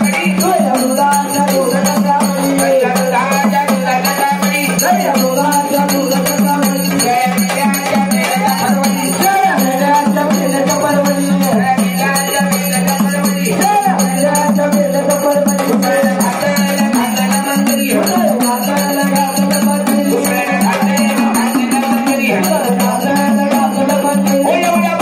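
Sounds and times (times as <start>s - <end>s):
hand drum beat: 0.0s - 25.0s
jingling percussion: 0.0s - 25.0s.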